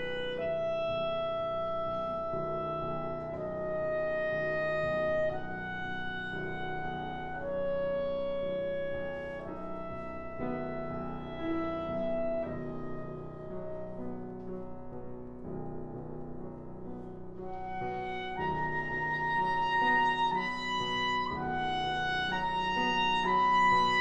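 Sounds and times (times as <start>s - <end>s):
clarinet playing long notes: 0.0s - 14.0s, 17.5s - 24.0s
piano accompaniment: 0.0s - 24.0s.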